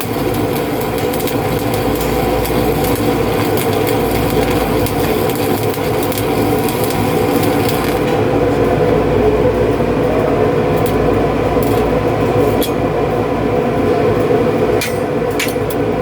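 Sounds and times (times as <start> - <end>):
loud mechanical drone: 0.0 - 16.0.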